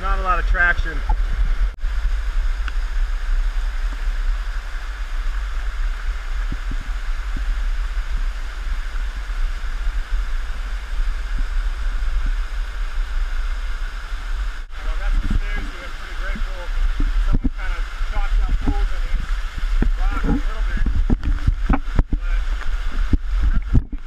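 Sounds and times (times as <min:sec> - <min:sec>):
waterfall rushing over rocks: 0:00.0 - 0:24.0.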